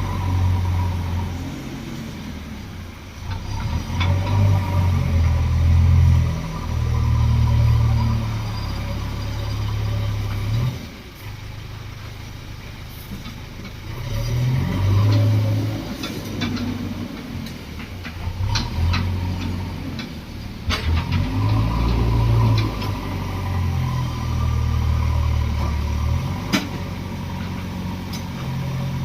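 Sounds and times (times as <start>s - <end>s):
diesel engine revving under load: 0.0s - 29.0s.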